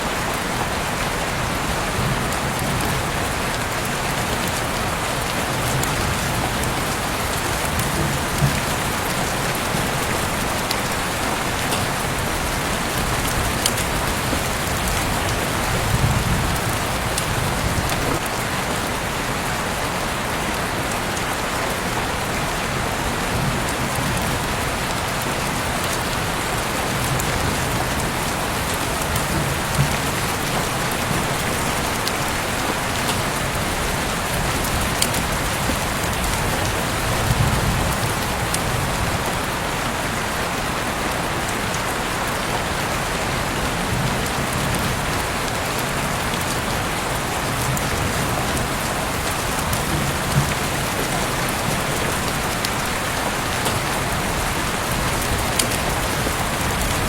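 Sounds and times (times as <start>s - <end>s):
heavy rain: 0.0s - 57.0s
sharp raindrops: 0.0s - 57.0s.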